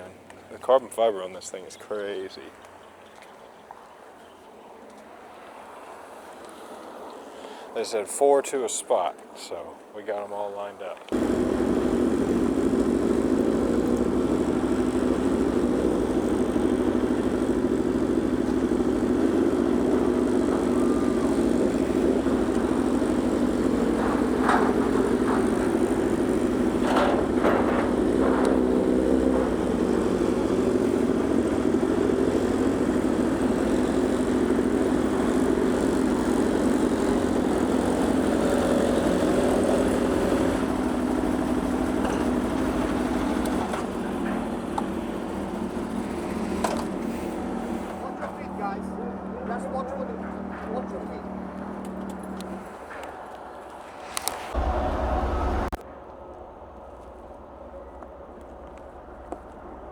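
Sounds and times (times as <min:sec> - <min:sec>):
ship engines droning: 0:05.9 - 0:59.9.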